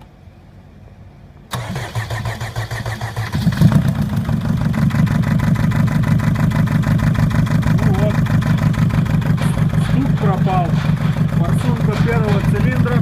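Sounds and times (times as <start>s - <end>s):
diesel engine starting and idling: 1.5s - 13.0s.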